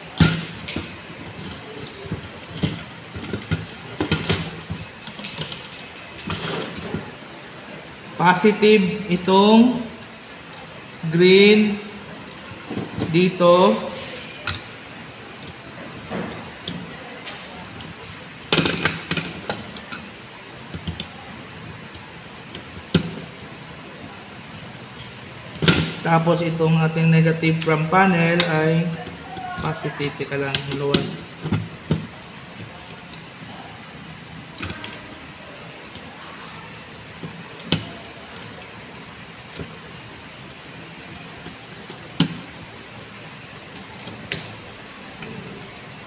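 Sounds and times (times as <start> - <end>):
room noise: 0.0 - 46.0.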